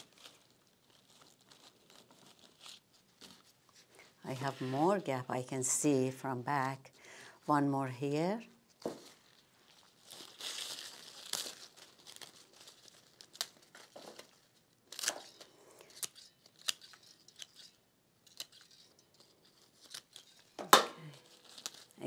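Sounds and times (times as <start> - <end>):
rustling of leaves and petals: 0.0 - 5.5, 8.3 - 22.0.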